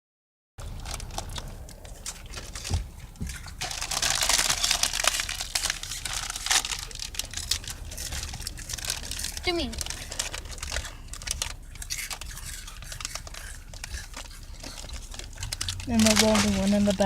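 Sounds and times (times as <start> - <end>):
chip bags crinkling: 0.6 - 17.0
chips crunching: 0.6 - 17.0
low steady rumble: 0.6 - 17.0.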